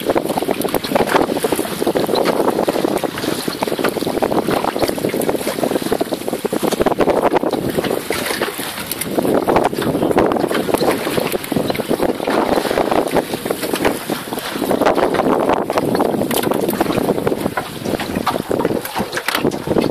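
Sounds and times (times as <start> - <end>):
water wash: 0.0 - 19.9
wind buffeting microphone: 0.0 - 19.9.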